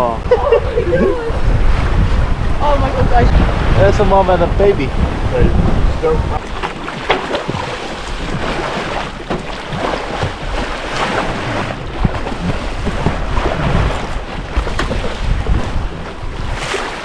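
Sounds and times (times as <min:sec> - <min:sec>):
wind buffeting microphone: 0:00.0 - 0:17.0
water splashing along boat hull: 0:00.2 - 0:17.0.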